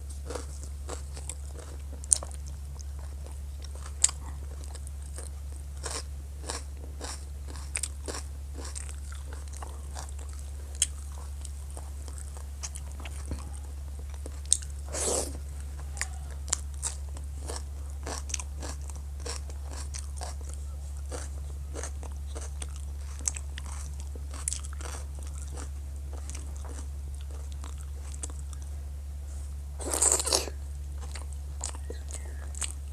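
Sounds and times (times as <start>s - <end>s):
chewing soft food: 0.0s - 32.9s
crunchy bites: 0.2s - 28.7s, 29.8s - 32.9s.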